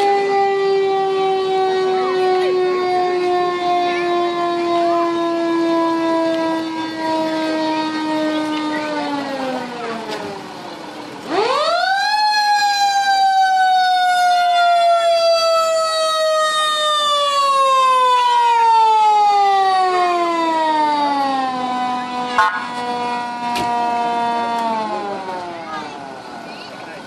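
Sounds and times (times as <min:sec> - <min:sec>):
fire truck siren wailing: 0:00.0 - 0:26.4.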